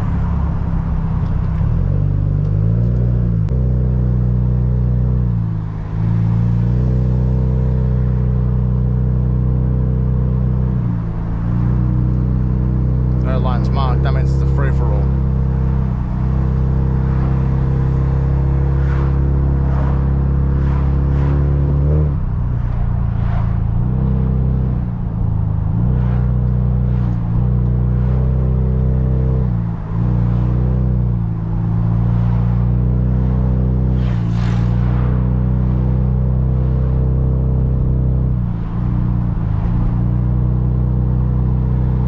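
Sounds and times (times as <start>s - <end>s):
car engine droning: 0.0s - 42.0s.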